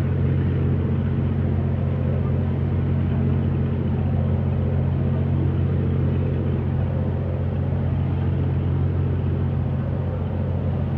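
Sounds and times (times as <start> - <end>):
low motor rumble: 0.0 - 10.9.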